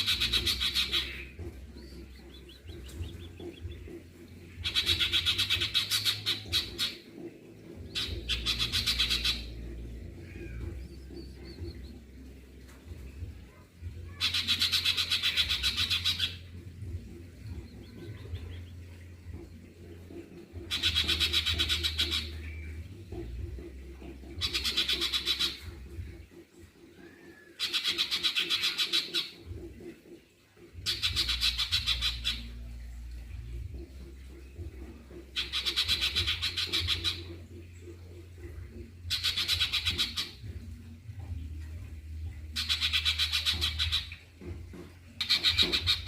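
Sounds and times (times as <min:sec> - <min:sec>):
steady low hum: 0:00.0 - 0:27.5, 0:29.4 - 0:42.6.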